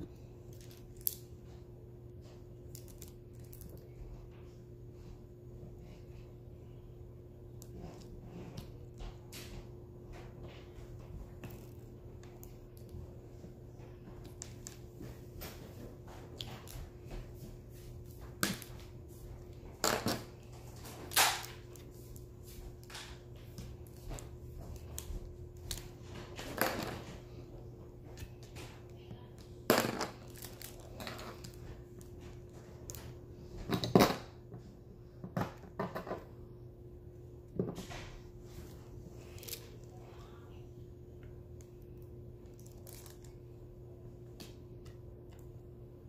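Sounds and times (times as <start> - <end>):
faint hum: 0.0 - 46.0.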